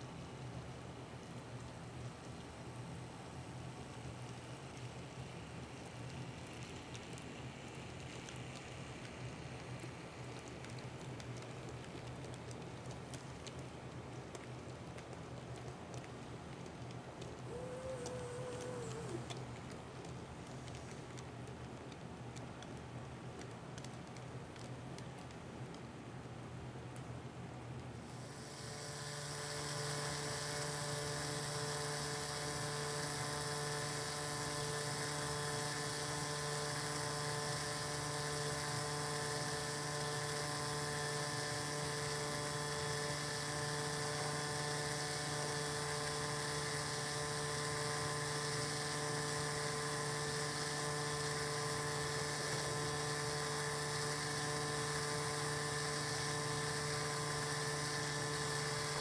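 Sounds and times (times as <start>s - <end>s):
electric motor hum with whine: 0.0s - 22.5s, 28.0s - 59.0s.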